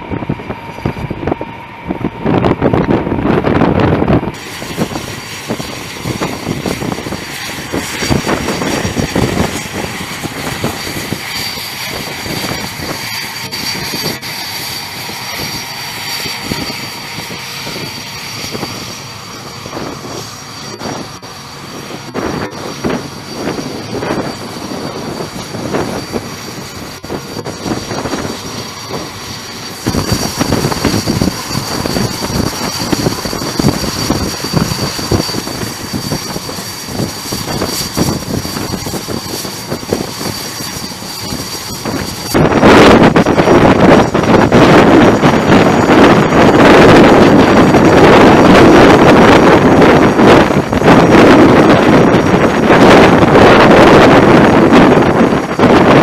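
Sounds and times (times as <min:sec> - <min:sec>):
jet engine whine and roar: 0:00.0 - 0:56.0
wind on microphone: 0:00.0 - 0:56.0.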